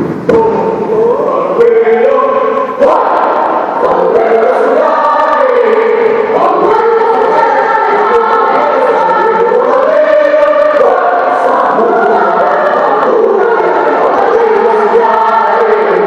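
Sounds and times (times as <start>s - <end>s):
choir singing in harmony: 0.3s - 16.0s.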